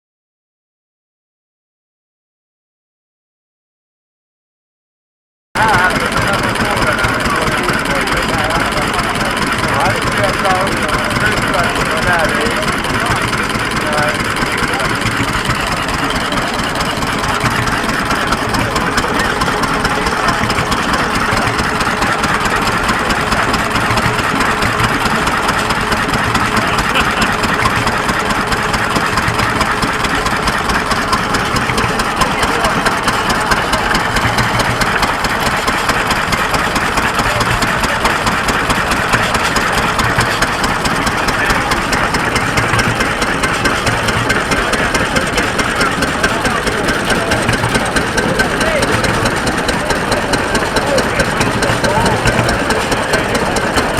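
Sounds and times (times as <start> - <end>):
motor drone: 5.6 - 53.9
planing machine clattering: 5.6 - 53.9.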